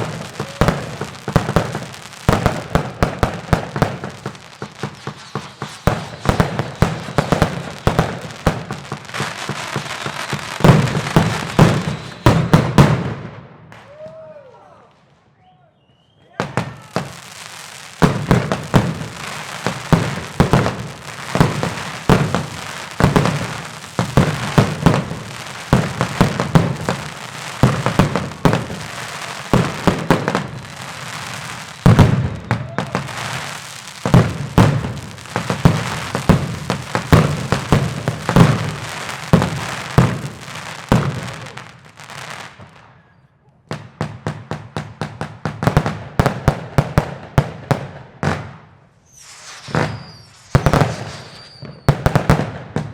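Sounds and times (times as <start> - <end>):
firecrackers sharp cracks: 0.0 - 14.2, 16.4 - 43.0, 43.7 - 52.9
fireworks and firecrackers banging: 0.0 - 52.9.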